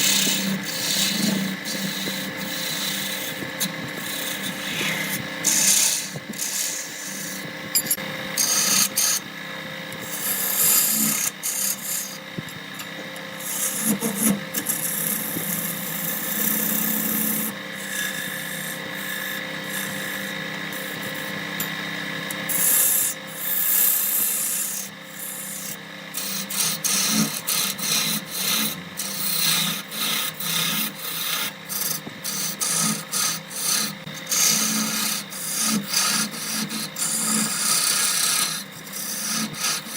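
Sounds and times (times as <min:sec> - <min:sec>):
tool scraping wood: 0:00.0 - 0:09.2, 0:10.0 - 0:39.9
lathe humming: 0:00.0 - 0:39.9.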